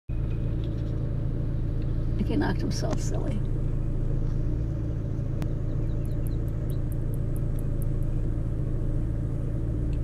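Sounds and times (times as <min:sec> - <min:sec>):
engine idling: 0:00.1 - 0:10.0.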